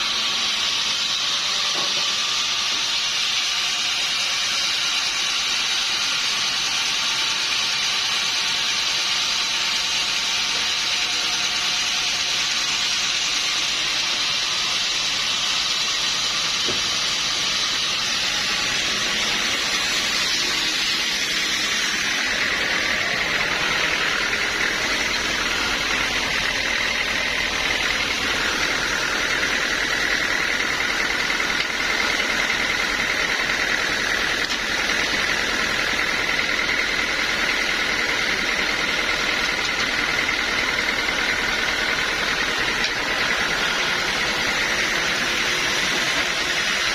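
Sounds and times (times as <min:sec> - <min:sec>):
sawmill saw cutting log: 0:00.0 - 0:46.9.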